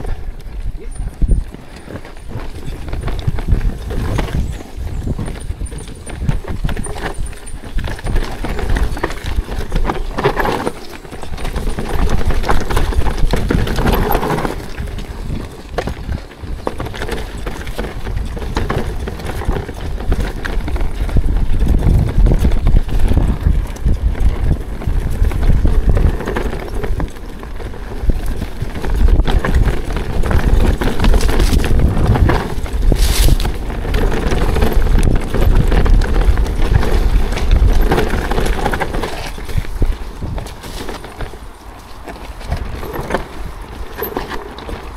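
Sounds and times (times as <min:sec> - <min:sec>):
bike frame rattling: 0:00.0 - 0:44.9
bike tyres rolling over rock: 0:00.0 - 0:44.9.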